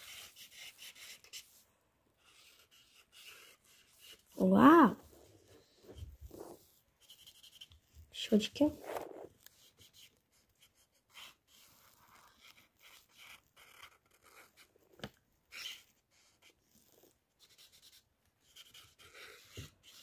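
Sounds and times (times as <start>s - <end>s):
marker scratching on paper: 0.0s - 1.6s, 2.2s - 14.7s, 15.5s - 20.0s.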